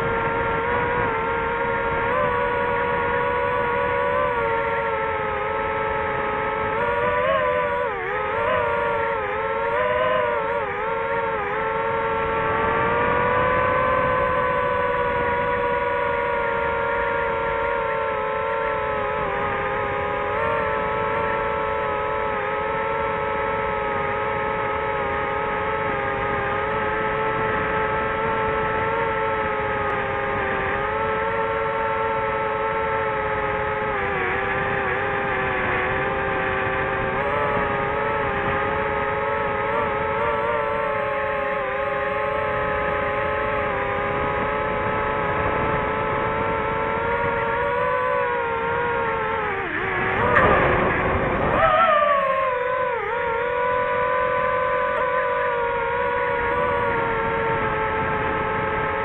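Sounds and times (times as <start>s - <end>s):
drone propellers whining: 0.0s - 59.0s.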